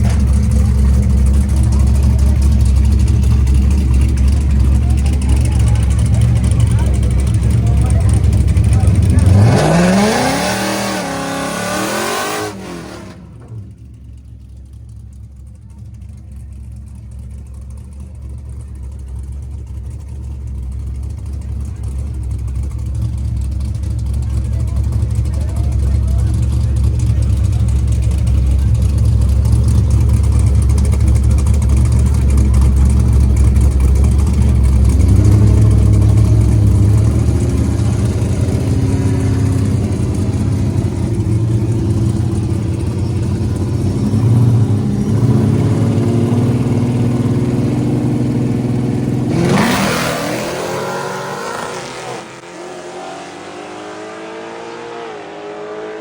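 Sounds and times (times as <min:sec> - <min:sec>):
car accelerating away: 0:00.0 - 0:13.9, 0:21.0 - 0:56.0
car engines idling: 0:00.0 - 0:56.0.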